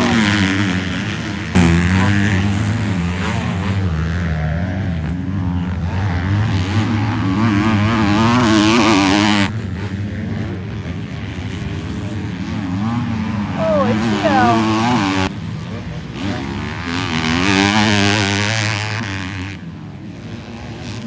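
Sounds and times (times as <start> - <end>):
motocross bike engines racing: 0.0 - 21.0.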